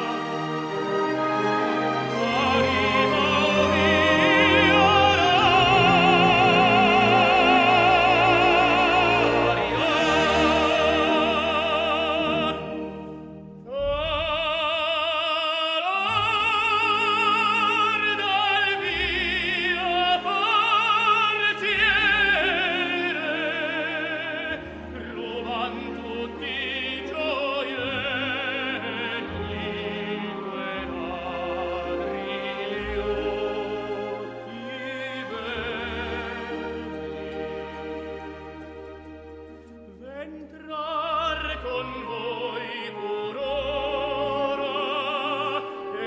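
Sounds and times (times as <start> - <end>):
operatic tenor singing: 0.0 - 46.0
orchestral accompaniment: 0.0 - 46.0.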